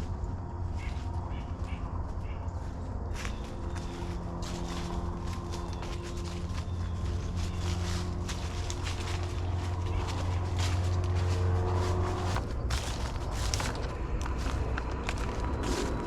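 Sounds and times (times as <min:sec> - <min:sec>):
footsteps crunching on trail: 0:00.0 - 0:16.0
propeller airplane droning overhead: 0:00.0 - 0:16.0.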